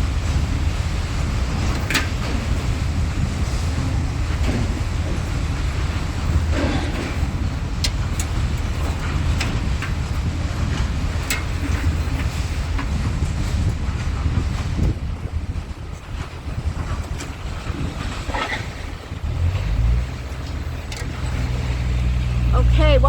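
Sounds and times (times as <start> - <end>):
heavy engine rumbling: 0.0 - 23.0.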